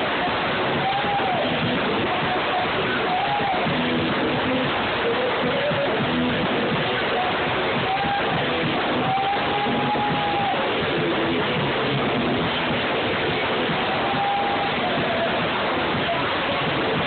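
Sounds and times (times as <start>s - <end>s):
band playing with guitar: 0.0s - 17.0s.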